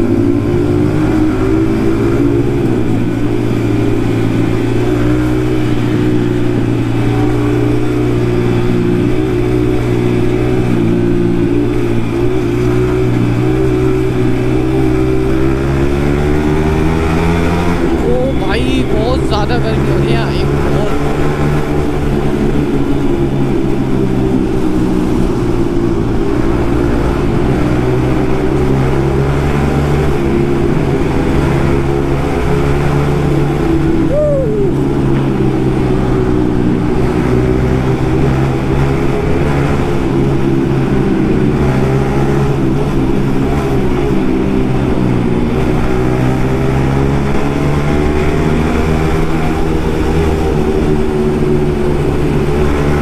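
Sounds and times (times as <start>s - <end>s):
loud motorcycle exhaust: 0.0s - 53.0s.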